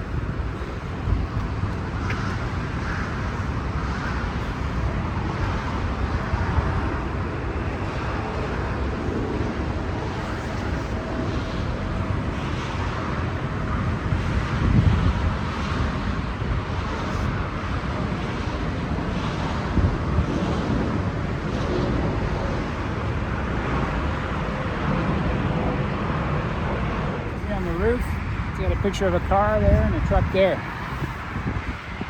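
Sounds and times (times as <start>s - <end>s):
road traffic hum: 0.0s - 32.0s
wind buffeting microphone: 0.0s - 32.0s.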